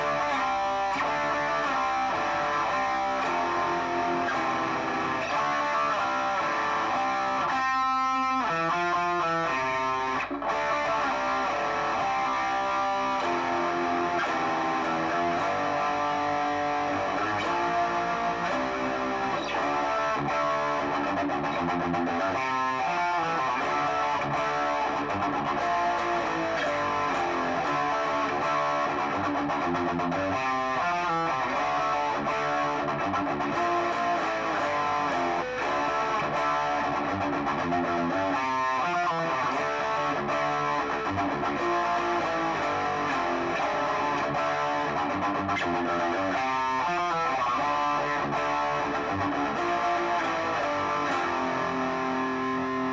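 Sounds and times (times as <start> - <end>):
electric guitar with effects: 0.0 - 52.9.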